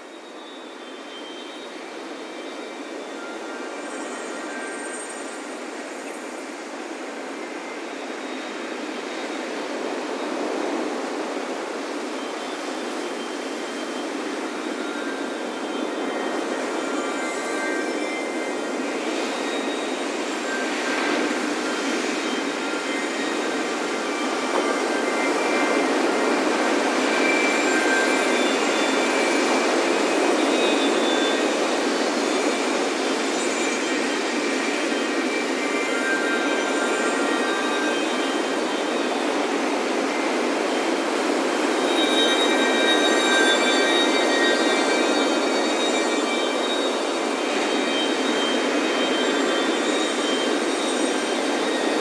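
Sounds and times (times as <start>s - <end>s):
wind chimes ringing: 0.7s - 52.0s.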